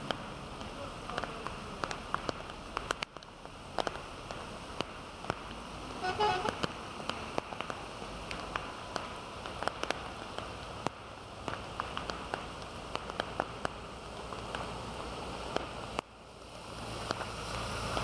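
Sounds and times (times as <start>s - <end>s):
heavy rain pouring: 0.0s - 18.0s
raindrops tapping close by: 0.0s - 18.0s.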